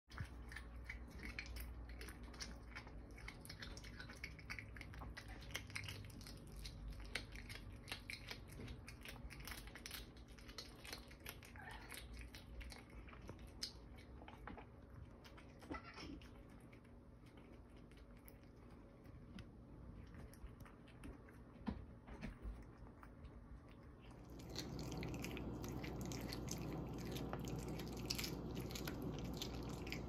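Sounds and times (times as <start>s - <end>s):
cat chewing crunching prey: 0.1s - 30.0s.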